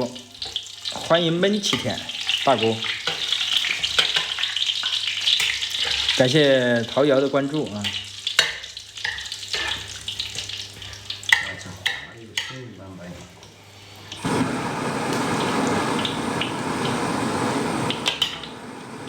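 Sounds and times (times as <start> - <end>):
food sizzling in fat: 0.0 - 19.0.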